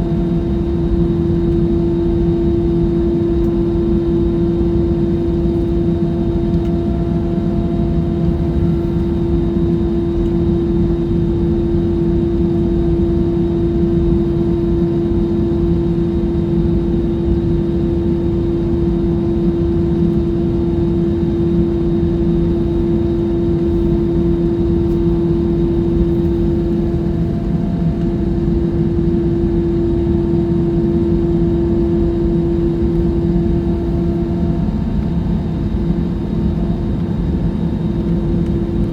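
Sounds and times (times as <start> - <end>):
airliner cabin jet engine roar: 0.0 - 38.9.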